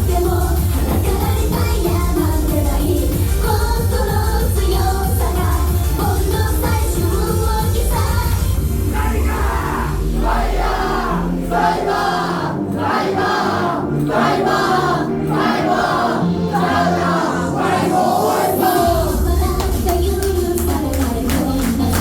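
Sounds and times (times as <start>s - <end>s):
sung vocals: 0.0s - 22.0s.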